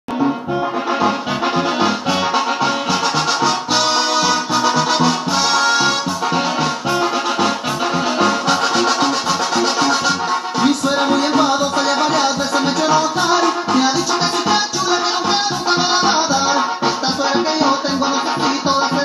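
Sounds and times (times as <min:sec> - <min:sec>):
accordion melody: 0:00.1 - 0:19.0
pulsing bass beat: 0:00.1 - 0:19.0.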